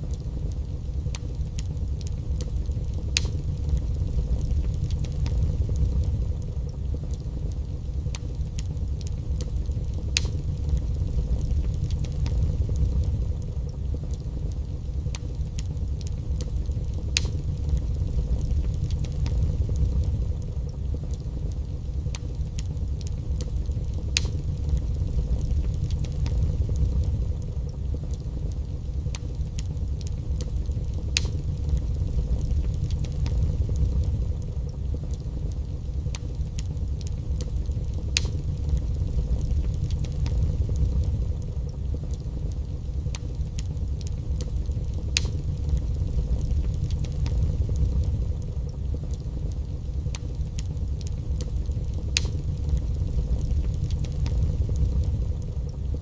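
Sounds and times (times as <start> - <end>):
burning logs crackling and popping: 0.0 - 56.0
fire flames rumbling: 0.0 - 56.0.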